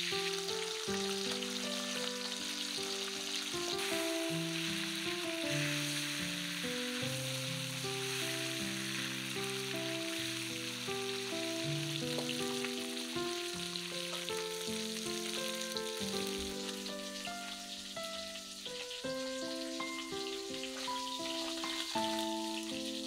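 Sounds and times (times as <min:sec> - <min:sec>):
fish sizzling in hot oil: 0:00.0 - 0:23.0
instrumental melody of held notes: 0:00.0 - 0:23.0.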